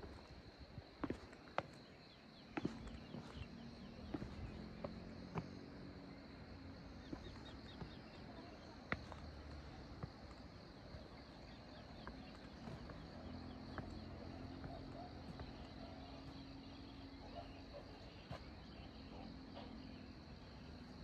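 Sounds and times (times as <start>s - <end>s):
footsteps on a path: 0.0s - 19.8s
insects chirring: 0.0s - 21.0s.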